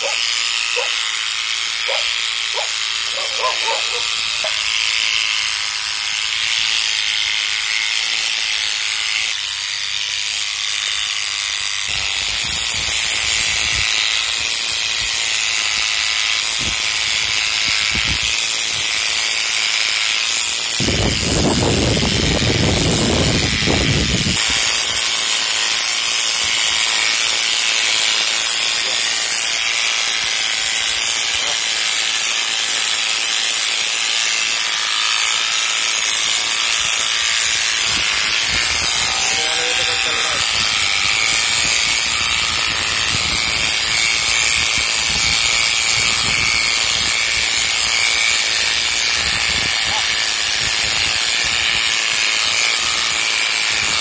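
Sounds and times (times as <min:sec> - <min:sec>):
electric clipper buzzing: 0:00.0 - 0:54.0.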